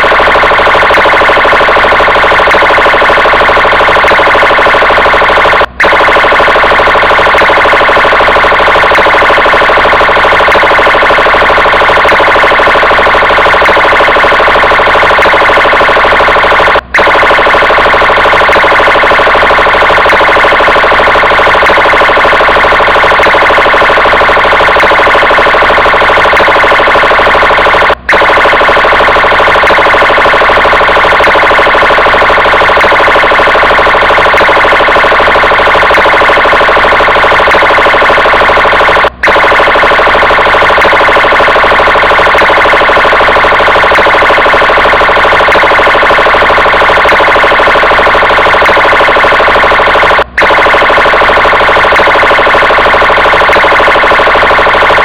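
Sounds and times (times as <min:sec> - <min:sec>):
police car siren: 0:00.0 - 0:55.0.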